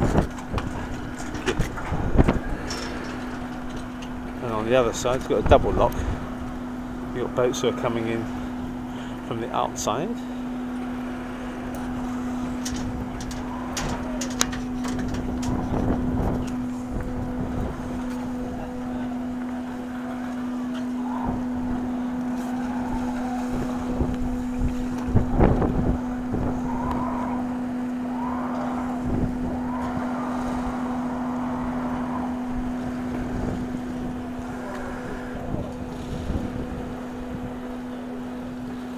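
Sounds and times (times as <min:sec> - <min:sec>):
wind buffeting microphone: 0:00.0 - 0:09.7, 0:10.3 - 0:38.9
boat engines humming: 0:00.0 - 0:38.9.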